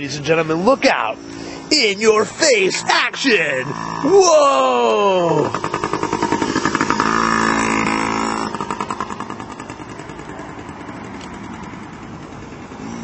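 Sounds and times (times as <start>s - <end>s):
motorbike engine passing: 0.0s - 13.0s.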